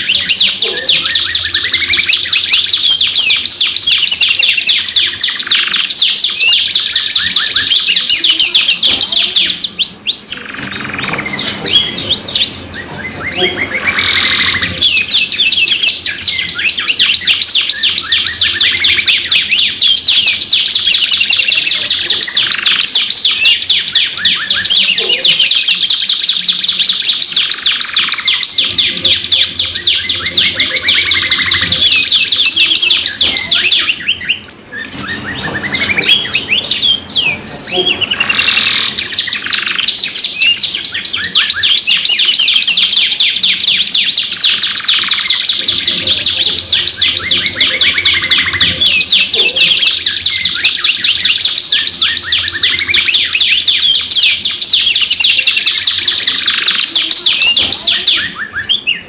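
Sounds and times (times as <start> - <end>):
canaries trilling and chirping: 0.0 - 59.0.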